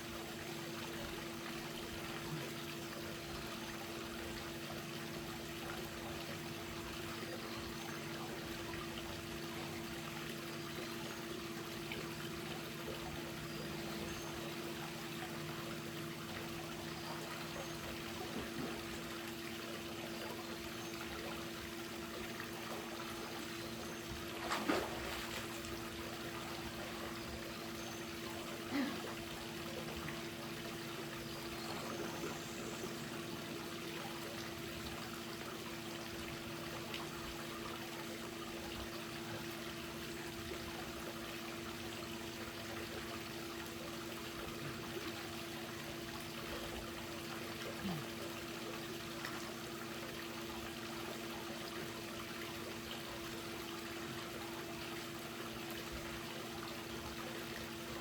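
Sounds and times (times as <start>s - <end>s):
pool water trickling and lapping: 0.0s - 58.0s
steady low hum: 0.0s - 58.0s.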